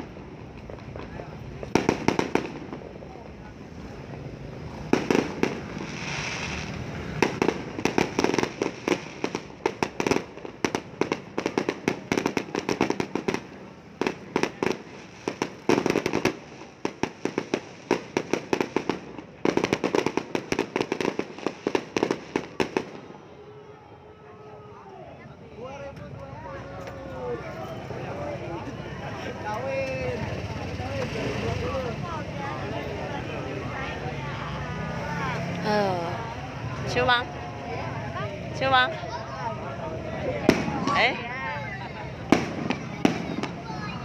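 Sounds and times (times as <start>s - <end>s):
fireworks bangs and crackles: 0.0s - 23.3s, 26.8s - 44.0s.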